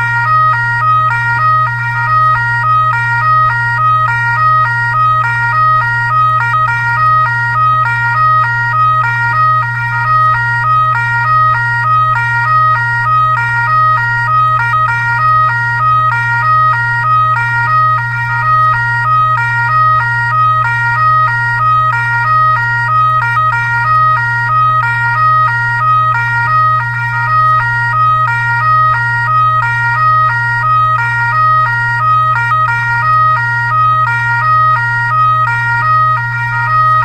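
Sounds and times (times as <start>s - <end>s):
electronic siren stepped tones: 0.0s - 37.0s
steady low hum: 0.0s - 37.0s.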